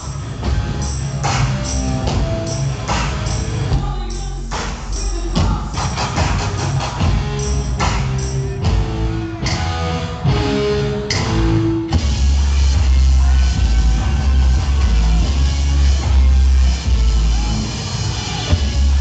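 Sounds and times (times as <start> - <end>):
deep bass tone: 0.0 - 19.0
live rock band playing: 0.0 - 19.0.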